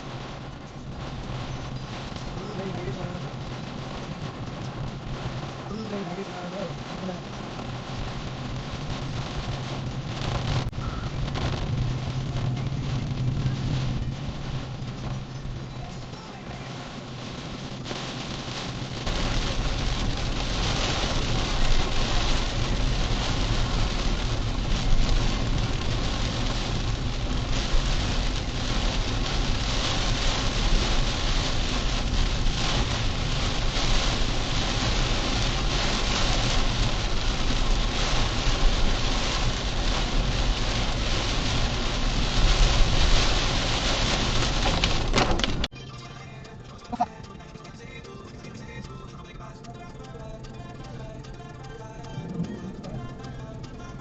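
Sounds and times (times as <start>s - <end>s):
heavy rain: 0.0s - 54.0s
low engine and road rumble: 0.0s - 54.0s.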